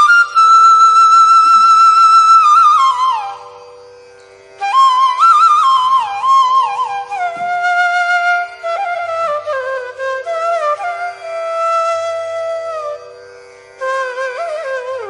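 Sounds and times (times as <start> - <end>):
solo flute melody: 0.0 - 4.0, 4.6 - 15.0.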